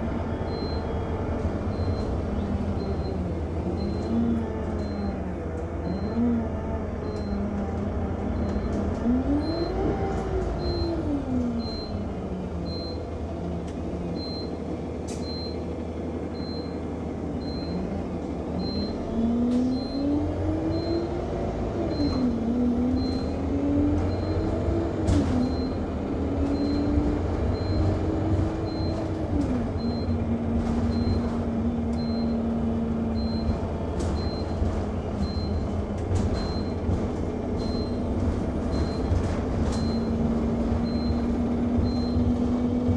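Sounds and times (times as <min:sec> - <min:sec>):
bus engine: 0:00.0 - 0:42.9.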